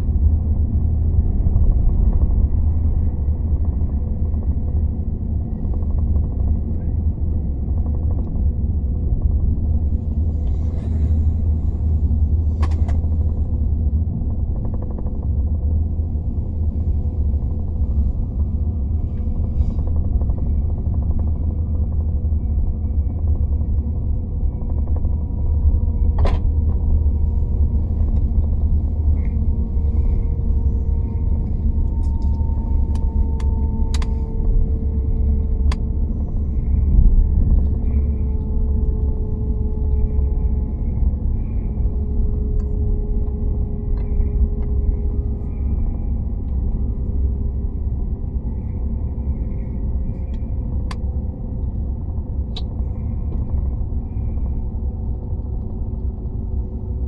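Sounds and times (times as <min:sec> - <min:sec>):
faint steady hum: 0:00.0 - 0:57.0
train rumble from inside carriage: 0:00.0 - 0:57.0.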